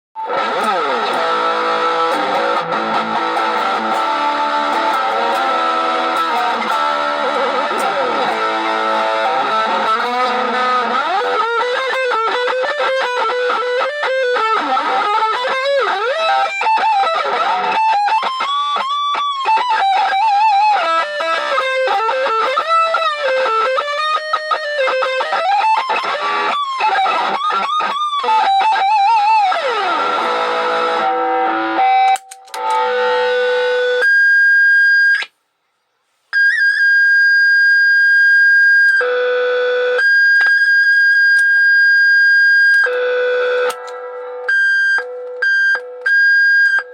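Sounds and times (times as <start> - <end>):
electric guitar music: 0.2 - 34.2, 38.8 - 46.9.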